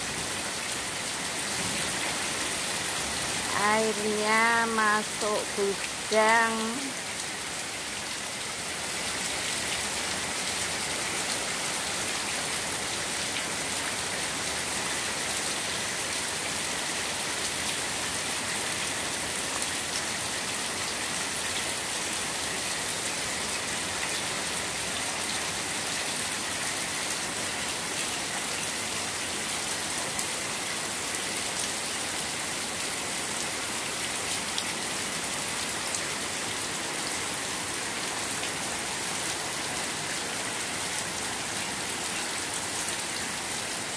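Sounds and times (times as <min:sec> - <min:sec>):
heavy rain splashing into water: 0:00.0 - 0:43.9.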